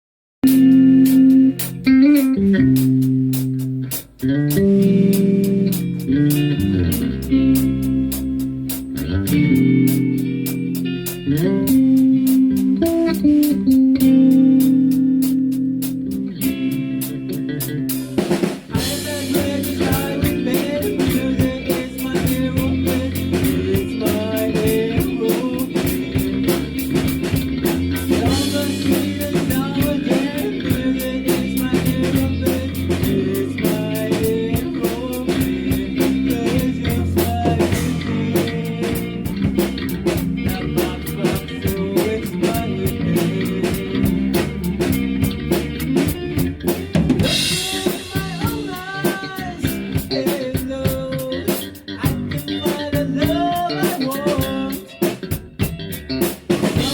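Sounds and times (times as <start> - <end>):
drum kit beat: 0.4 - 56.9
guitar: 0.4 - 56.9.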